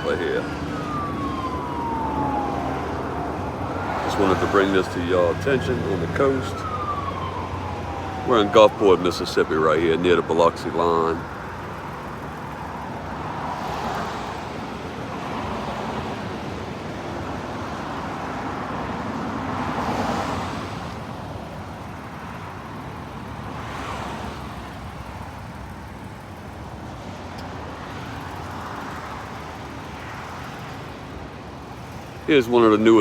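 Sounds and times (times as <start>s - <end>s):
cars passing: 0.0s - 33.0s
road traffic rush: 0.0s - 33.0s.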